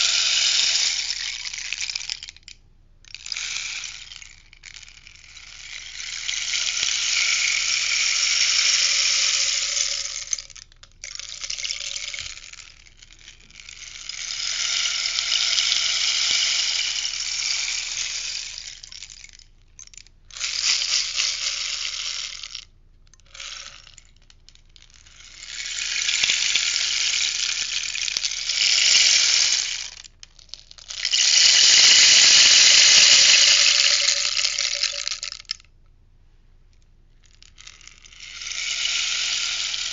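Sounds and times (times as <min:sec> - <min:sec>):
rainstick pouring: 0:00.0 - 0:35.7, 0:37.2 - 0:39.9.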